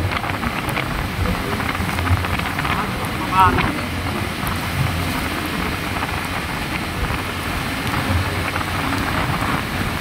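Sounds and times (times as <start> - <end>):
road noise on wet road: 0.0 - 10.0
wind rushing: 0.0 - 10.0.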